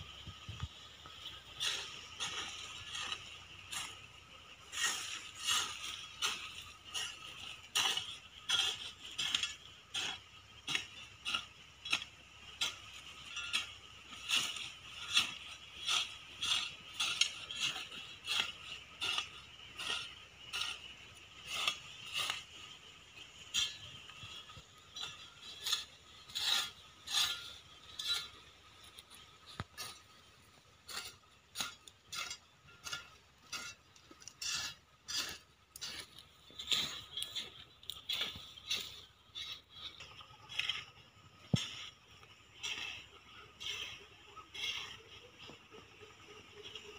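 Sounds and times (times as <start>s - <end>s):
hand hoe scraping dry soil: 0.0s - 46.9s.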